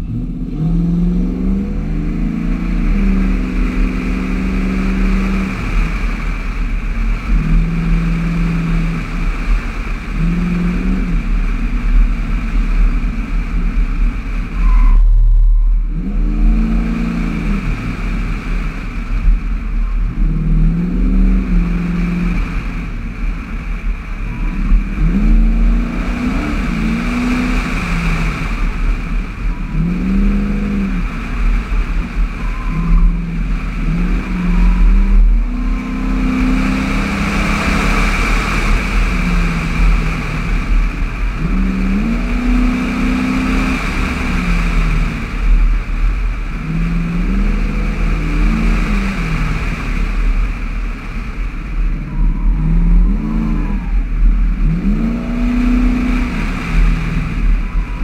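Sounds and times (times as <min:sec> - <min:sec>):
car engine accelerating: 0:00.0 - 0:58.0
low rumble: 0:00.0 - 0:58.0.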